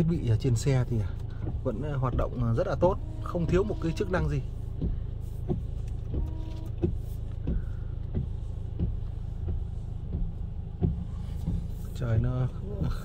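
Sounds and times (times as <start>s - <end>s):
diesel engine idling: 0.0s - 13.0s
windscreen wipers sweeping: 0.0s - 13.0s.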